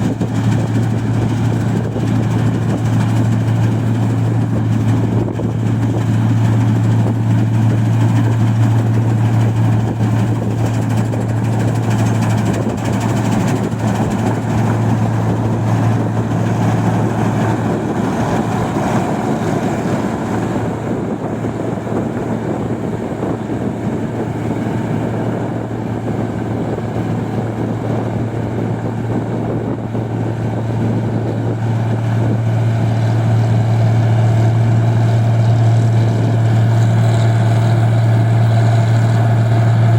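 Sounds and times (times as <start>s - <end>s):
machine engine low hum: 0.0s - 39.9s.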